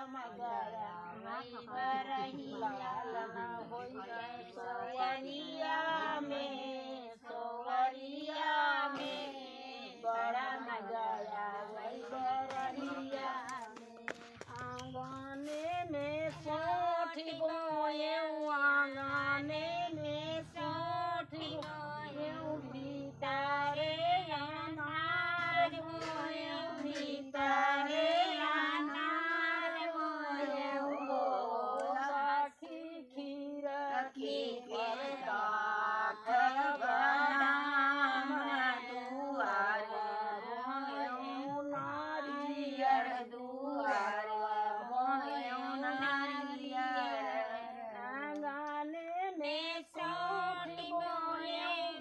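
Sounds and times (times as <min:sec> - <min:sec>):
women singing folk song: 0:00.0 - 0:52.0.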